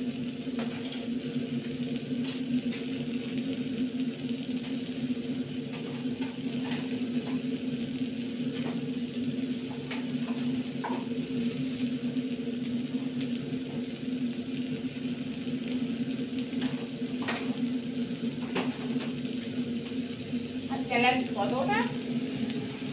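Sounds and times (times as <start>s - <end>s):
gas burner humming: 0.0s - 22.9s.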